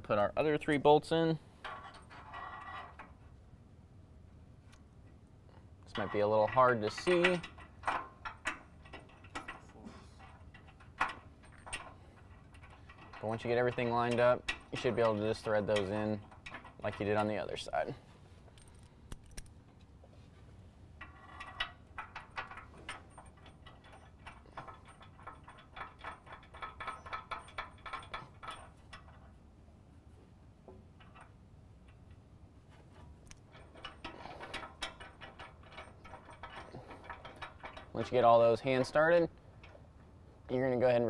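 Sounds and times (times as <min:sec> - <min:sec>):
metal bolts clicking and clinking: 0:00.4 - 0:03.4, 0:04.7 - 0:19.9, 0:21.0 - 0:29.4, 0:30.6 - 0:41.0.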